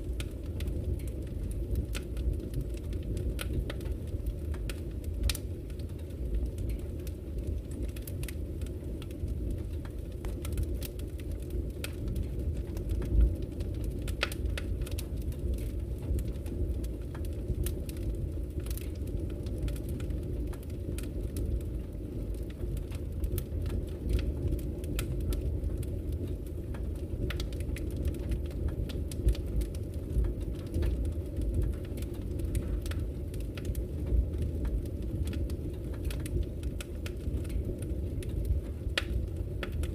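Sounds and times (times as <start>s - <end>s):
flames rushing: 0.0s - 39.9s
wood fire crackling: 0.0s - 39.9s.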